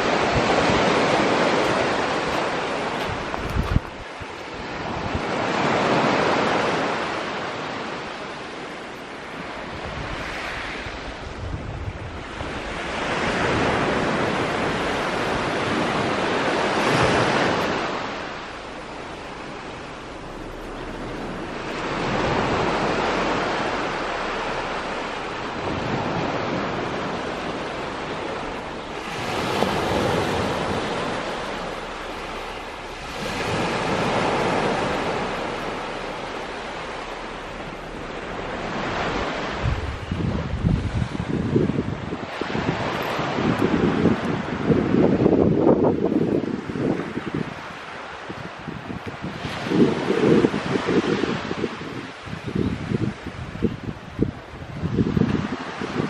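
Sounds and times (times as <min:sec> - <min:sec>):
waves washing onto sand beach: 0:00.0 - 0:56.0.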